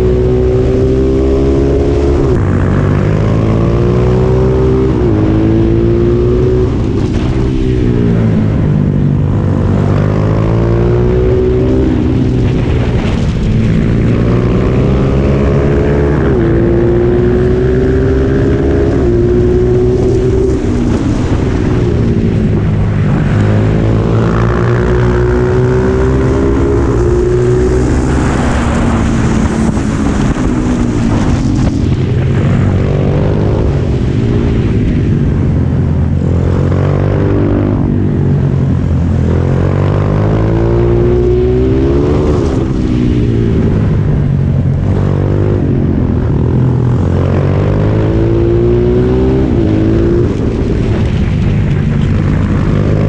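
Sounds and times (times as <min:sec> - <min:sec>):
racing motorcycle engine: 0:00.0 - 0:53.0
wind rush over microphone: 0:00.0 - 0:53.0.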